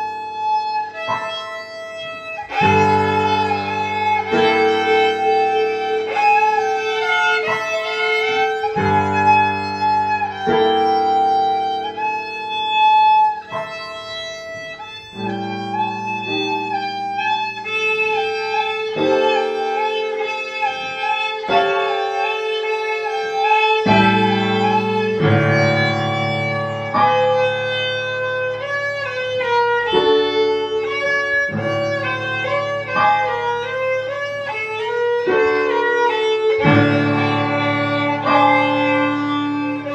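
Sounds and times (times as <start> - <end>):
bowed violin melody: 0.0 - 39.9.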